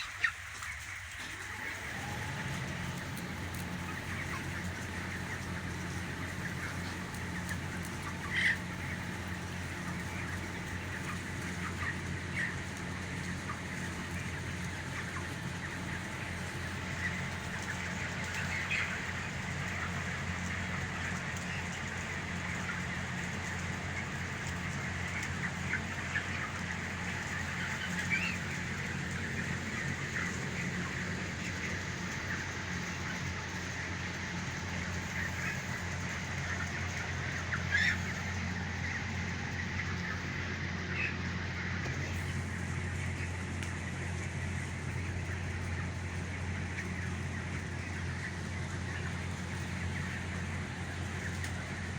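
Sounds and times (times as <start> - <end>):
chicks peeping and chirping: 0.0 - 51.9
steady low hum: 0.9 - 51.9.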